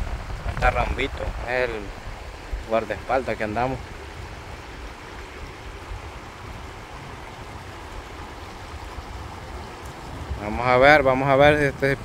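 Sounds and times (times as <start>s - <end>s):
low water rumble: 0.0s - 12.0s
water rushing over rocks: 0.0s - 12.0s.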